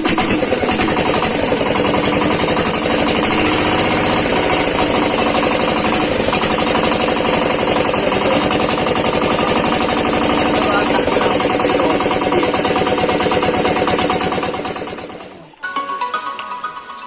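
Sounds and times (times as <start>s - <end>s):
diesel engine knocking: 0.0s - 15.5s.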